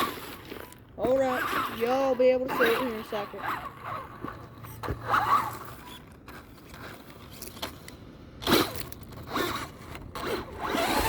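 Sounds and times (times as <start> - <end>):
rc car motor whirring: 0.0 - 7.8, 8.4 - 11.0.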